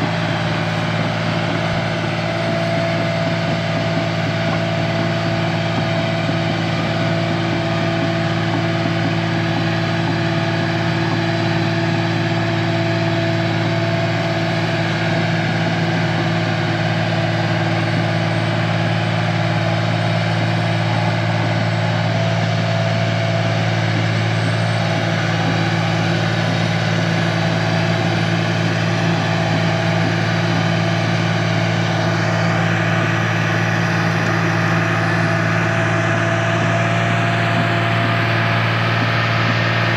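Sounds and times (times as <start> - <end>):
heavy equipment engine humming: 0.0 - 39.9.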